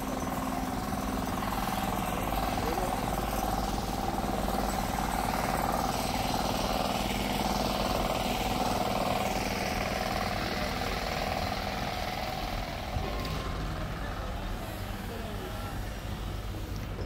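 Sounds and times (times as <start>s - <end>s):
constant drone: 0.0s - 17.0s
road traffic: 0.0s - 17.0s.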